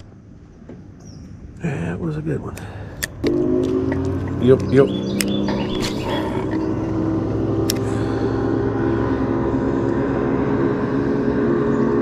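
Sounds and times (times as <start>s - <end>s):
boat motor droning: 1.4s - 12.0s.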